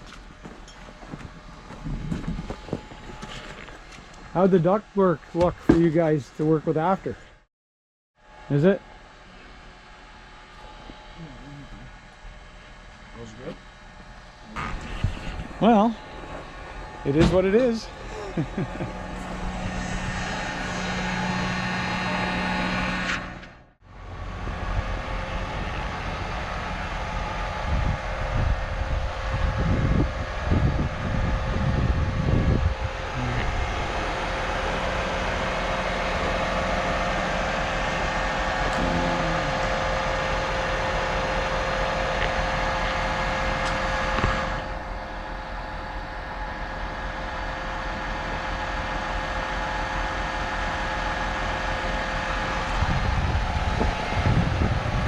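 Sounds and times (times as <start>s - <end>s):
truck engine running: 0.0s - 7.1s, 8.6s - 55.0s
steady whine: 8.2s - 55.0s.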